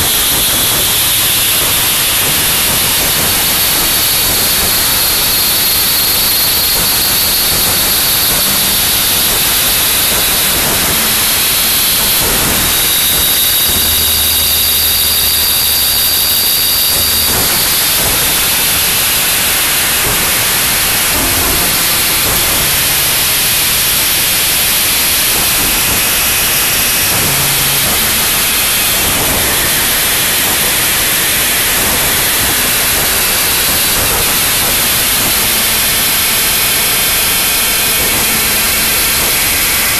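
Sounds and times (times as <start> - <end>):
high steady tone: 0.0 - 39.9
static hiss noise music: 0.0 - 39.9
low hum: 4.0 - 39.9.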